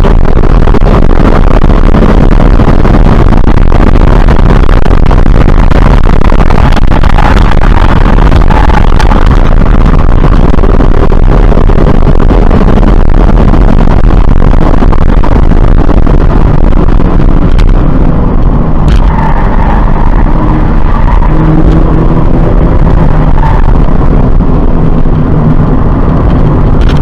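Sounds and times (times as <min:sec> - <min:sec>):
car engine pulling hard: 0:00.0 - 0:27.0
road and wind noise: 0:00.0 - 0:27.0.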